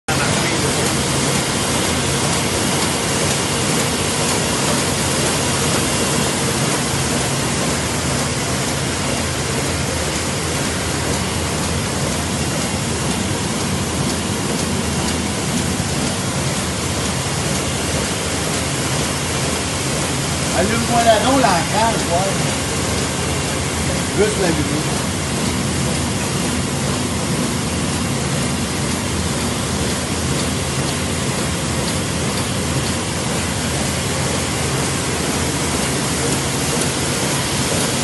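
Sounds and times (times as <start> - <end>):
low machine hum: 0.1 - 38.0
printing press running: 0.1 - 38.0.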